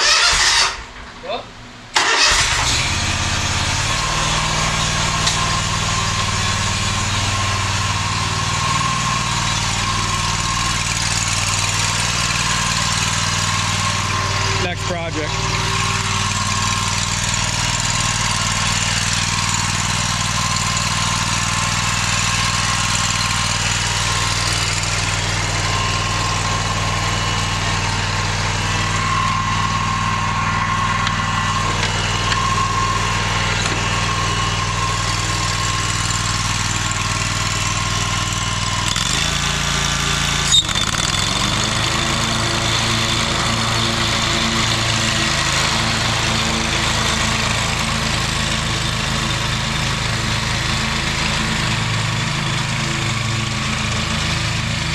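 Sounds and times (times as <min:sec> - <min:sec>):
mower engine running: 0:00.0 - 0:54.9.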